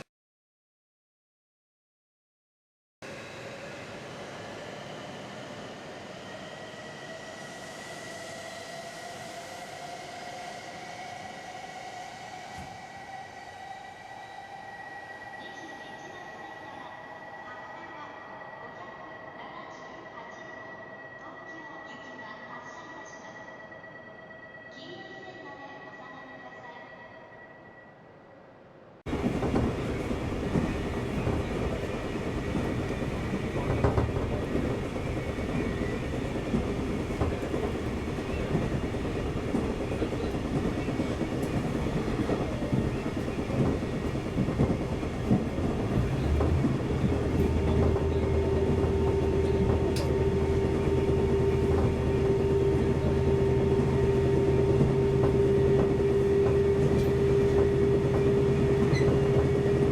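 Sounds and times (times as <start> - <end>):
train rumble and rail noise: 3.0 - 59.9.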